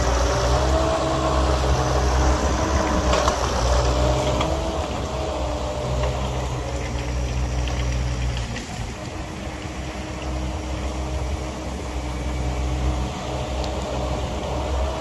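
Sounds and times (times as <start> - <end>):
skidsteer engine running: 0.0 - 15.0.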